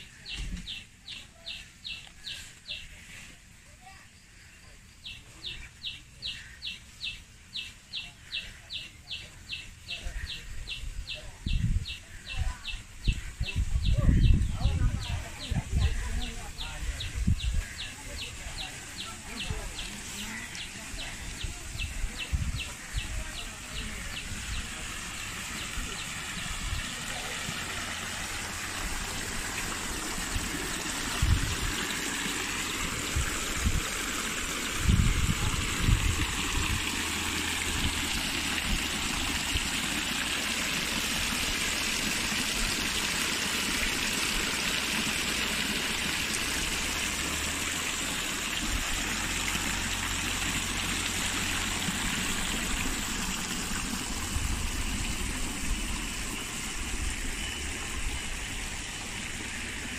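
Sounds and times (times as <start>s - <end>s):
fountain water splashing into pond: 5.0s - 59.9s.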